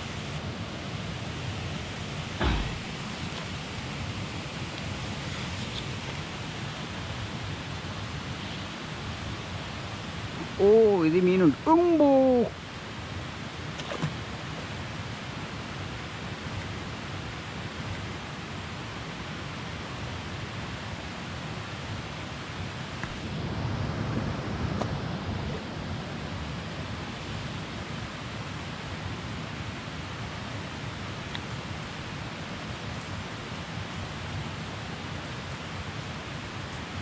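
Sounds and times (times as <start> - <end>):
rushing outdoor background noise: 0.0 - 37.0.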